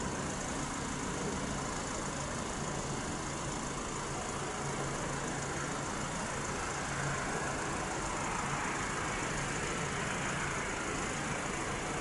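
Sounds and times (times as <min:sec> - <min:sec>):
distant turboprop engines: 0:00.0 - 0:12.0.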